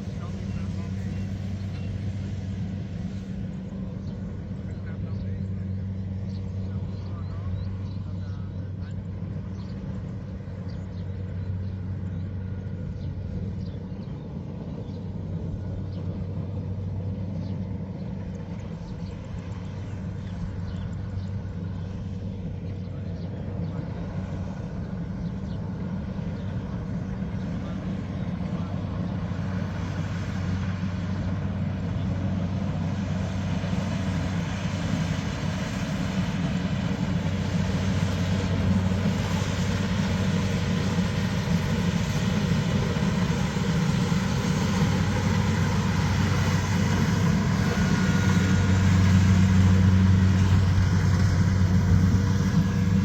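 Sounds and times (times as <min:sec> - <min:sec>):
heavy vehicle engine running: 0:00.0 - 0:53.0.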